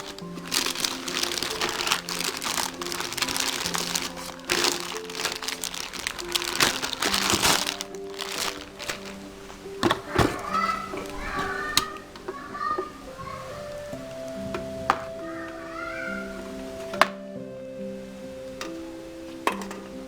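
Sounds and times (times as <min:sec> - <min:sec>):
plastic packaging crinkling: 0:00.0 - 0:17.2, 0:18.4 - 0:20.0
background music melody: 0:00.0 - 0:20.0.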